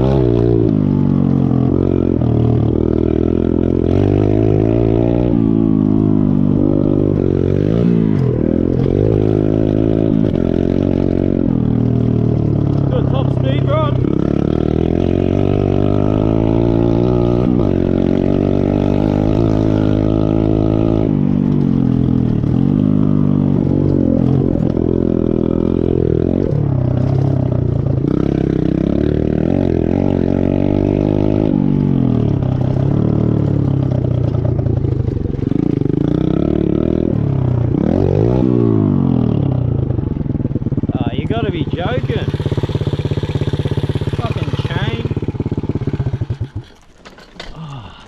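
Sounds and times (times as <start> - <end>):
small motorbike engine revving: 0.0 - 47.9.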